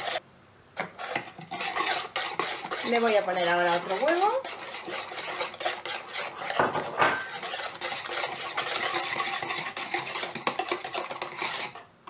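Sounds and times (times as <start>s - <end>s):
whisk beating batter in bowl: 0.0s - 0.2s, 0.8s - 11.8s.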